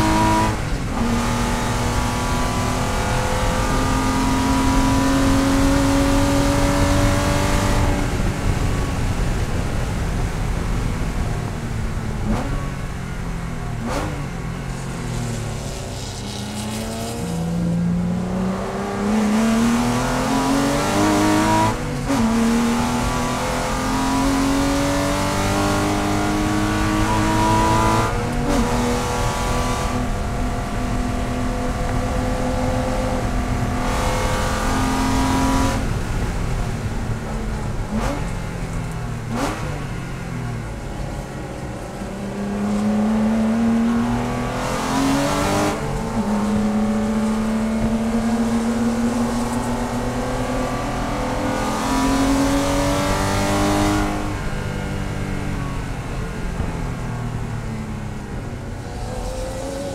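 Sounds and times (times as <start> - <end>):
race car engine revving: 0.0 - 10.8, 13.8 - 56.7, 58.2 - 59.9.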